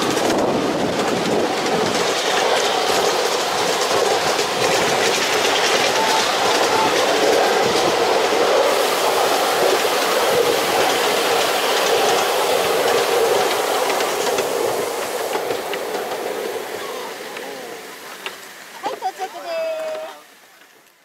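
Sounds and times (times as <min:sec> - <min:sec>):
clicking at rail joints: 0:00.0 - 0:08.7, 0:09.6 - 0:18.9
train wheels rumbling on rails: 0:00.0 - 0:20.8.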